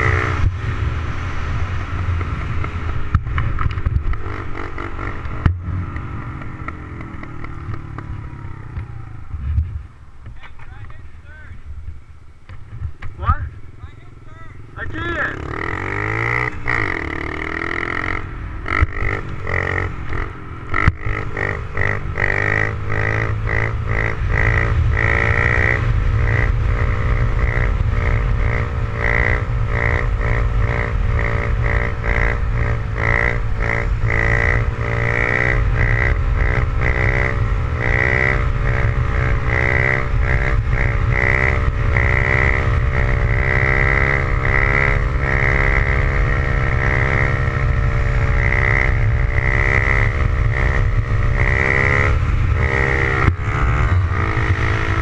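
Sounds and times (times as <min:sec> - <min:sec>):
motorcycle engine at high revs: 0:00.0 - 0:11.5, 0:12.4 - 0:55.0.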